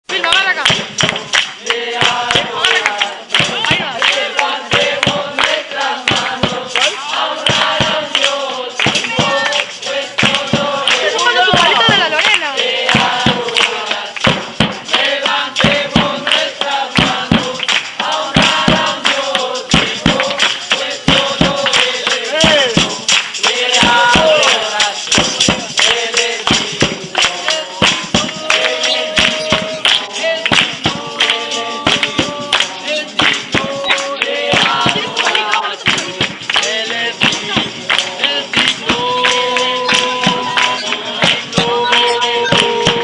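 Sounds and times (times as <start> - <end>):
voices singing: 0.0 - 43.0
sharp percussive taps: 0.1 - 43.0.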